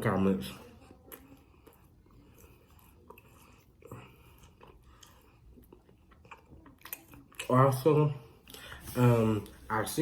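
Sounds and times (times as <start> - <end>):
faint chewing food: 0.0 - 10.0.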